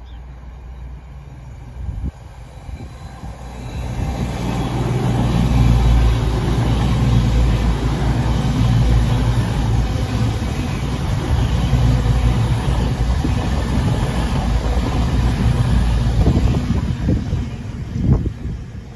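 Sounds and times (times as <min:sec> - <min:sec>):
diesel train passing slowly: 0:00.0 - 0:18.9.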